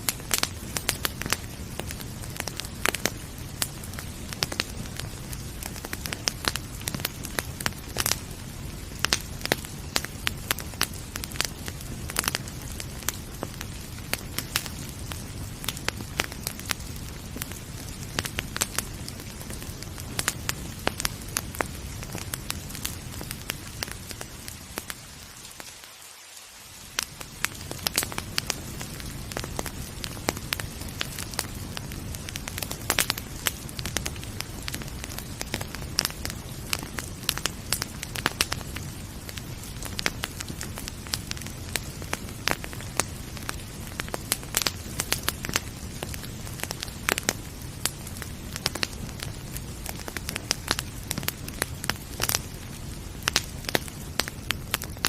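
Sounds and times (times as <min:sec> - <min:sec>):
wood fire crackling and popping: 0:00.0 - 0:25.8, 0:26.6 - 0:55.0
rain: 0:00.0 - 0:55.0.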